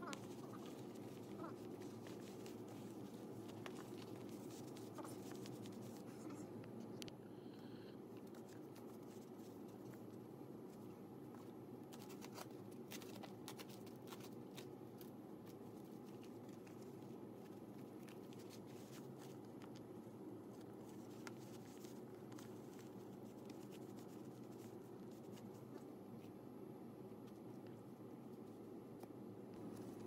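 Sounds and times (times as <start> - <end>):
paper crinkling: 0.0 - 6.9, 8.1 - 26.4, 27.1 - 30.0
steady low hum: 0.0 - 30.0.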